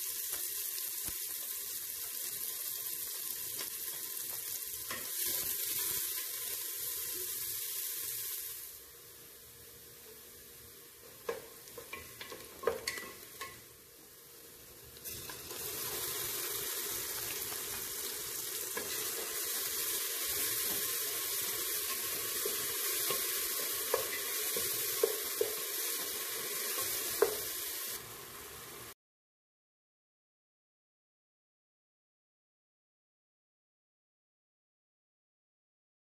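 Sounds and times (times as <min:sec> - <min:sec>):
onions sizzling in oil: 0:00.0 - 0:29.0.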